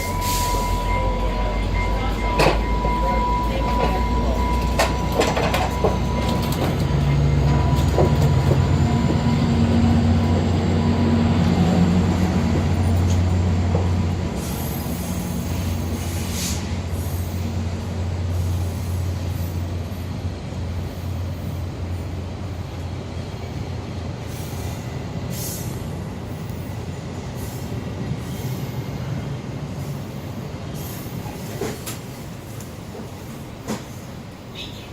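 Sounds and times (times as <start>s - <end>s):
train engine drone and rumble: 0.0s - 34.9s.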